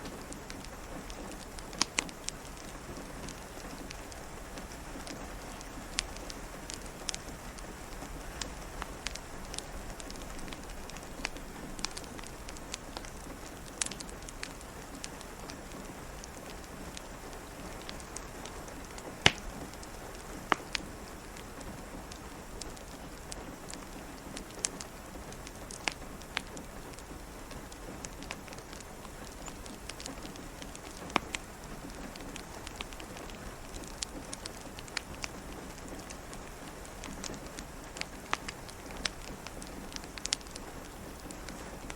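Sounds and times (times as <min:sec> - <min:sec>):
rain hissing: 0:00.0 - 0:41.9
wood fire crackling: 0:00.0 - 0:41.9.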